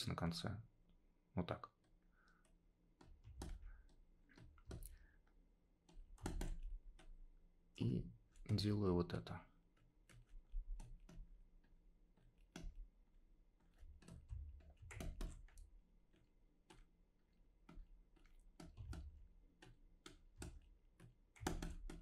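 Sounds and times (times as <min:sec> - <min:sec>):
mouse and keyboard clicking: 0:01.8 - 0:05.1, 0:05.8 - 0:07.2, 0:07.8 - 0:12.9, 0:13.6 - 0:17.0, 0:17.6 - 0:22.0.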